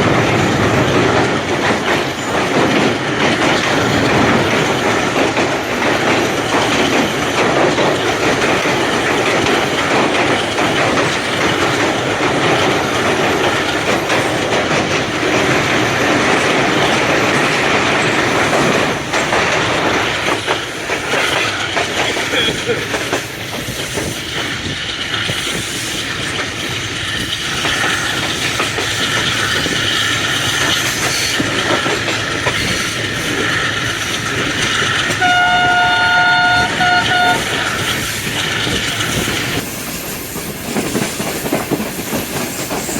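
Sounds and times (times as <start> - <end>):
train rolling noise: 0.0 - 42.9
wheels clacking over rail joints: 0.0 - 42.9.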